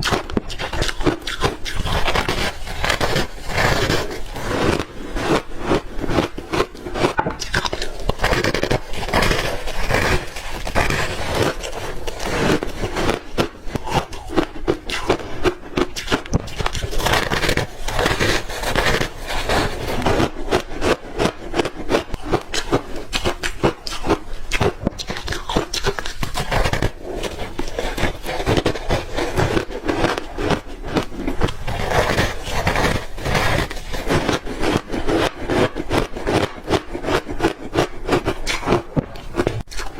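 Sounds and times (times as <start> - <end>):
crunching ice chunks: 0.0 - 39.9.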